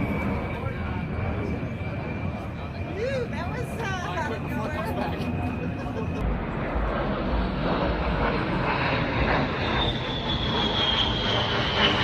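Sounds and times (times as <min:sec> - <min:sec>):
high engine whine: 0:00.0 - 0:12.0
military aircraft engine: 0:00.0 - 0:12.0.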